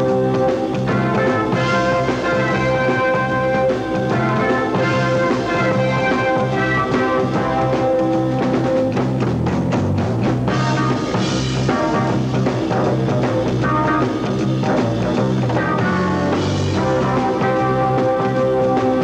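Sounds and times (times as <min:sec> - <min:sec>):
rock music with drums: 0:00.0 - 0:19.0.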